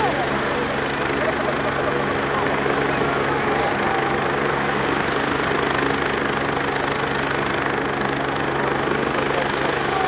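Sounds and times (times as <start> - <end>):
helicopter rotor churning: 0.0 - 10.0
helicopter turbine whine: 0.0 - 10.0.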